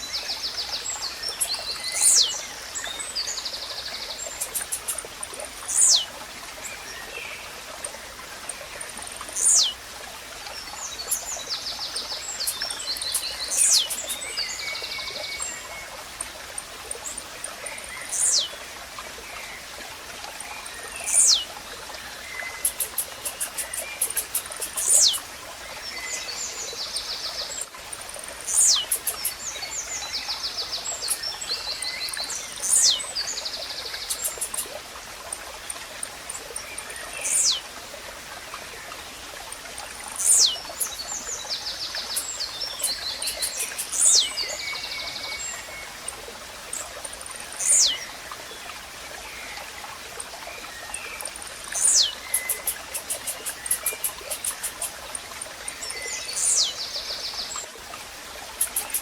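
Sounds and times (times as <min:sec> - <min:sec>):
small birds trilling and chipping: 0:00.0 - 0:18.7, 0:19.4 - 0:59.0
running water: 0:00.0 - 0:59.0.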